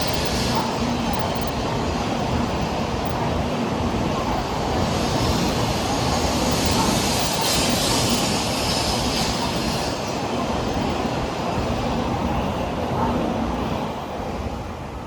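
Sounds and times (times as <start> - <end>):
bullet train rumble and hiss: 0.0 - 15.0.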